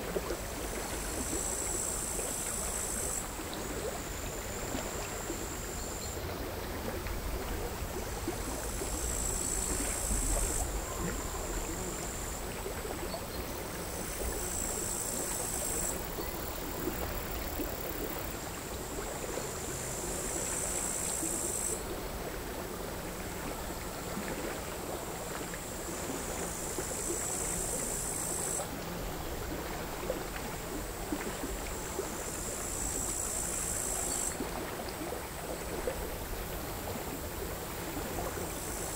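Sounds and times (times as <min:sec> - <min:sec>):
crickets buzzing: 0:00.0 - 0:38.9.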